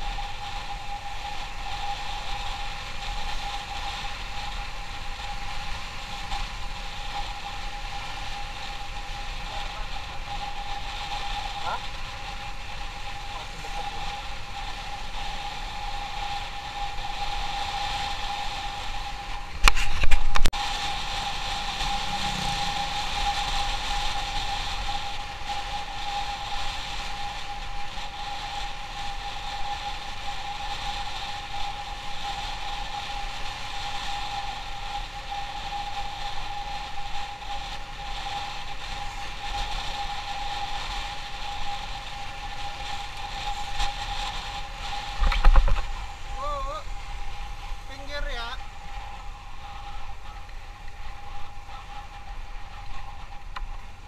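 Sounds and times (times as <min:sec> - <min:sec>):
motorcycle engine whine: 0:00.0 - 0:54.0
road and wind noise: 0:00.0 - 0:54.0.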